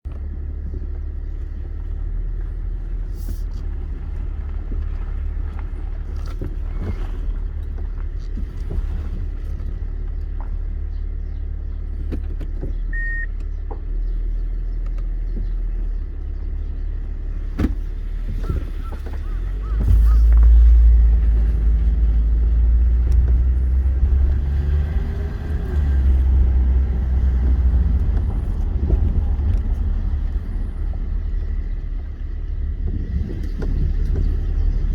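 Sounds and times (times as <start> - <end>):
engine and road noise rumble: 0.0 - 34.9.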